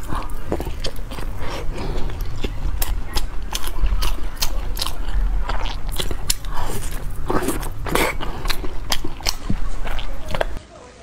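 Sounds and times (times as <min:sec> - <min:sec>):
person chewing: 0:00.0 - 0:10.6.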